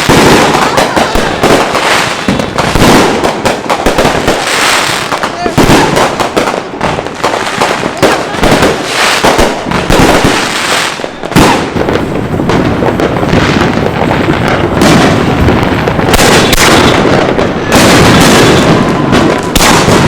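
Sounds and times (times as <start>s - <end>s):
firework bang: 0.0s - 20.0s
fireworks crackling and popping: 0.0s - 20.0s.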